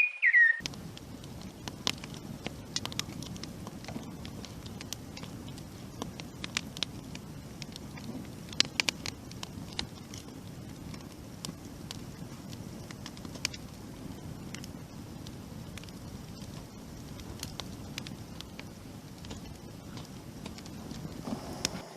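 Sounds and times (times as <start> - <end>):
sharp crackles and clicks: 0.6 - 21.9.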